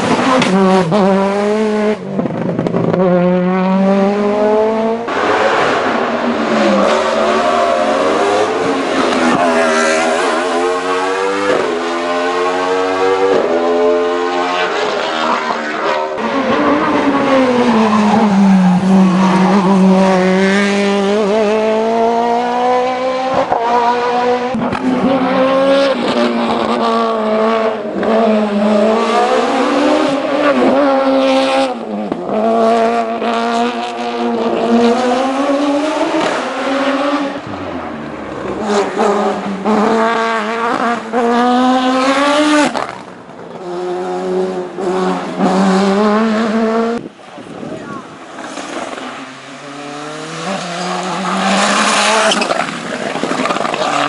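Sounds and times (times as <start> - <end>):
race car engine revving: 0.0 - 47.2, 48.0 - 54.0.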